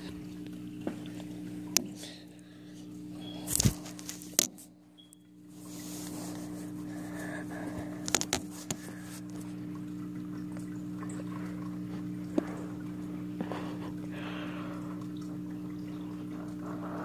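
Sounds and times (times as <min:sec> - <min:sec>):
filter pump humming: 0:00.0 - 0:17.0
water trickling: 0:00.0 - 0:17.0.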